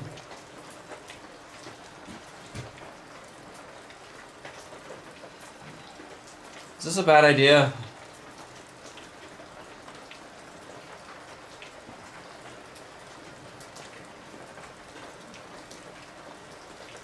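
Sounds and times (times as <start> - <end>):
flame hissing with faint crackles: 0.0 - 17.0.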